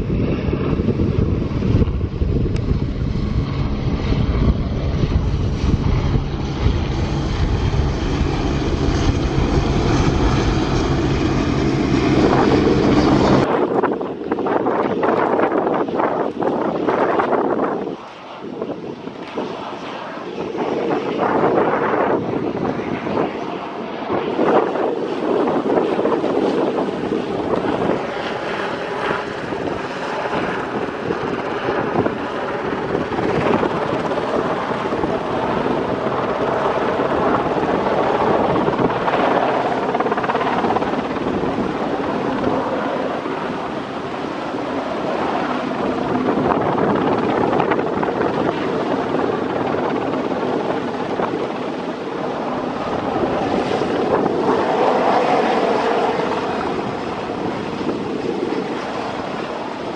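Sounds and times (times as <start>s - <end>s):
helicopter engines whining: 0.0s - 59.9s
helicopter rotor beating: 0.0s - 59.9s.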